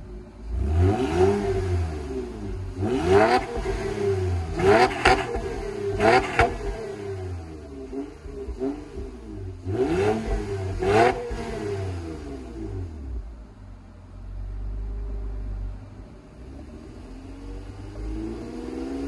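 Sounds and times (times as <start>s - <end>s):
car engine revving: 0.0s - 13.5s, 14.8s - 19.0s
car engine idling: 0.0s - 18.1s.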